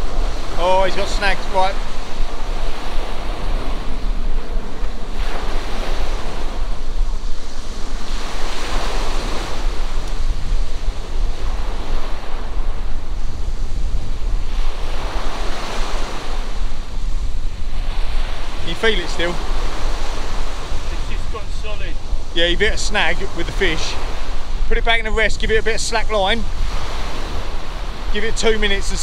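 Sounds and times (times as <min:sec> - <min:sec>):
sea waves breaking: 0:00.0 - 0:29.0
wind rumbling on microphone: 0:00.0 - 0:29.0.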